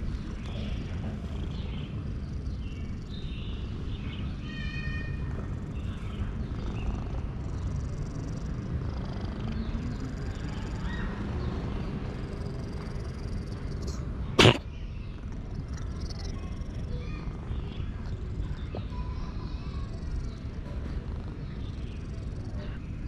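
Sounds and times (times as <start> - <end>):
cat purring: 0.0 - 4.4, 5.1 - 23.0.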